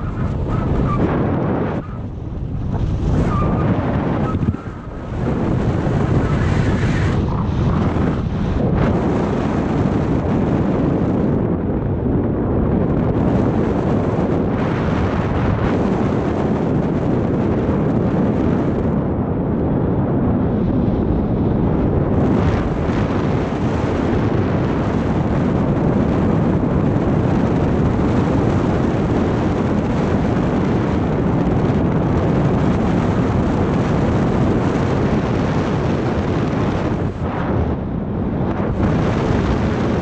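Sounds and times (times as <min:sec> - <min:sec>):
wind rumble on microphone: 0:00.0 - 0:40.0.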